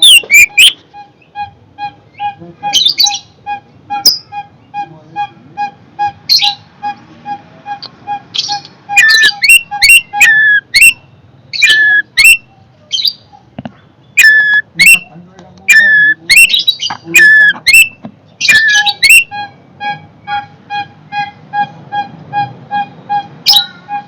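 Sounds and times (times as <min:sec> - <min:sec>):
shrike calling harshly: 0:00.0 - 0:13.3, 0:14.2 - 0:24.0.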